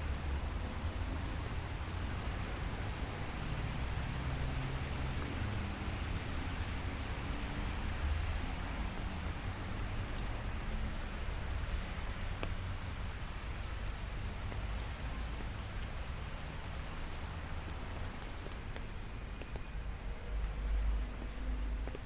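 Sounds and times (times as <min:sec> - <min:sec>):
light rain on street: 0:00.0 - 0:22.0
sharp drip tick: 0:00.1 - 0:22.0.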